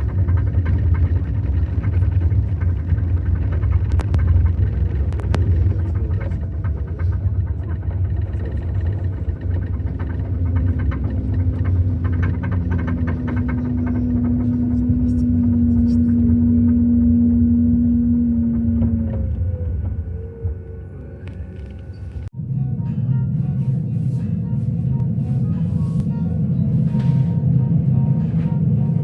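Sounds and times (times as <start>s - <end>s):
steady hum: 0.0s - 29.0s
vehicle low rumble: 0.0s - 29.0s.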